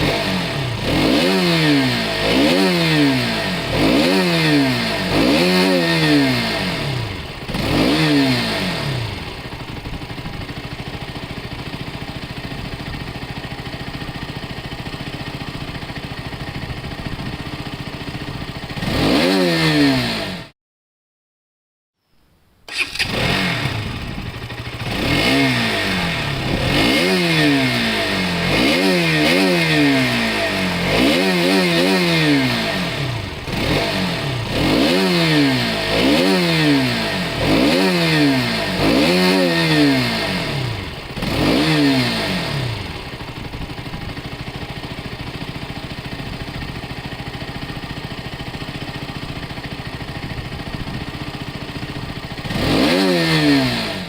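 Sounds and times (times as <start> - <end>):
motorcycle engine revving: 0.0 - 20.6, 22.7 - 54.0.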